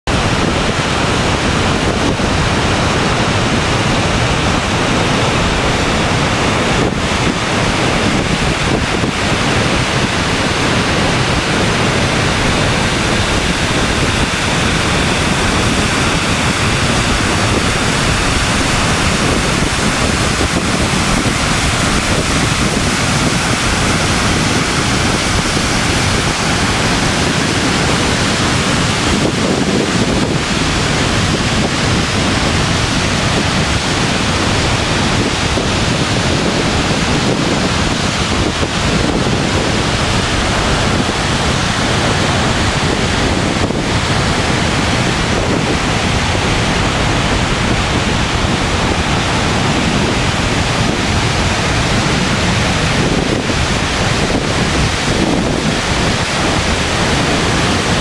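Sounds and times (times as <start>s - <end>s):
waterfall crashing onto boulders: 0.0s - 58.0s.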